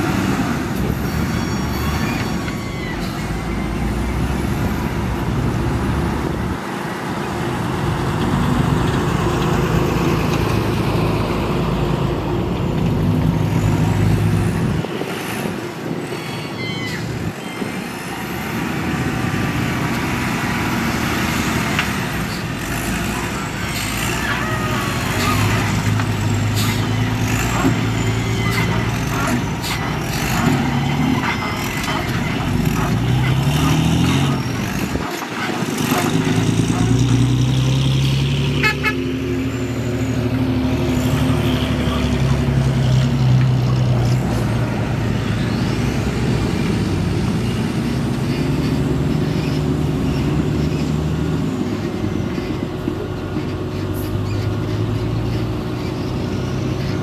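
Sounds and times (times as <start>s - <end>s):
loader diesel engine revving: 0.0s - 15.6s, 17.2s - 57.0s
dump truck diesel engine running: 0.0s - 16.0s, 17.1s - 57.0s.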